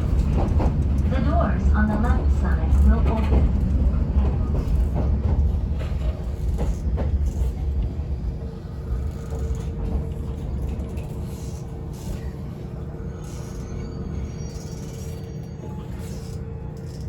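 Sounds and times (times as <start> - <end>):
electric railcar rumble: 0.0 - 17.0.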